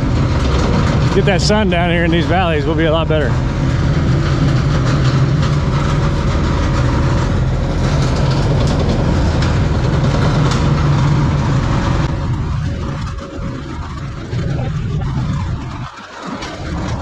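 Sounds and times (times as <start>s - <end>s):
diesel engine running under load: 0.0s - 17.0s
metal culvert scraping on road: 0.0s - 17.0s.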